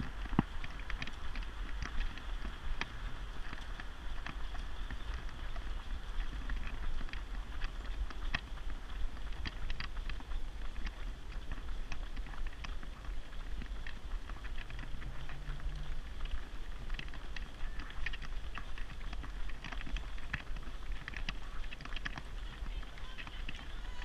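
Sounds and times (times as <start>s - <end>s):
running footsteps on tarmac: 0.0s - 24.0s
steady low rumble: 0.0s - 24.0s.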